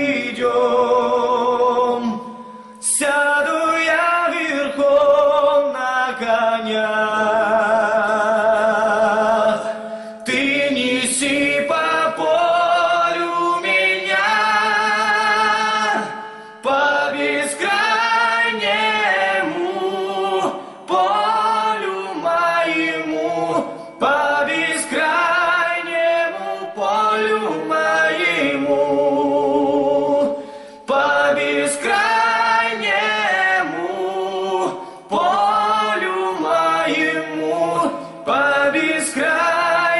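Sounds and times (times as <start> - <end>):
men singing in harmony: 0.0 - 39.9.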